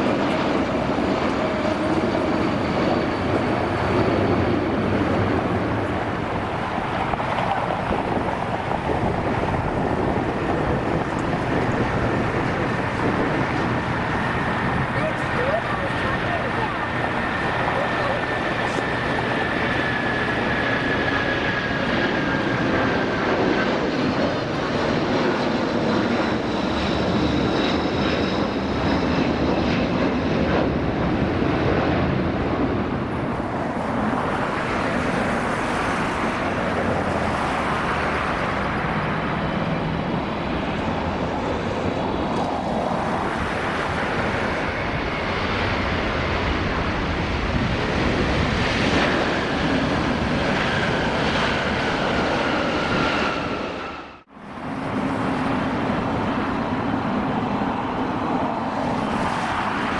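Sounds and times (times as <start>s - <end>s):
jet airliner landing: 0.0s - 59.9s
jet airliner taking off: 0.0s - 59.9s.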